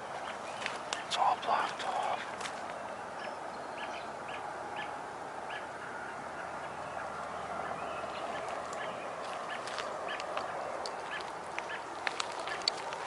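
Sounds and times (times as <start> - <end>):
birds calling: 0.0 - 13.0
steady background hiss: 0.0 - 13.0.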